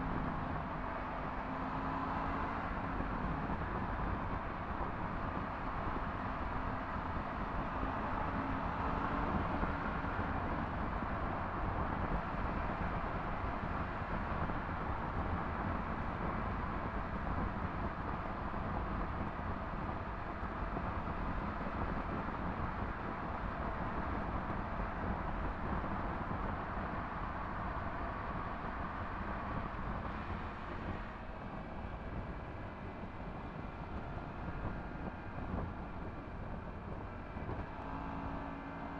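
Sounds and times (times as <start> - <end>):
wind and road rush: 0.0 - 38.9.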